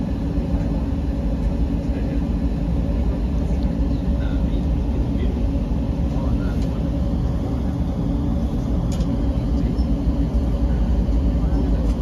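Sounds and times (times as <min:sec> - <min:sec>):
diesel locomotive engine drone: 0:00.0 - 0:12.0
train coaches rumbling on track: 0:00.0 - 0:12.0.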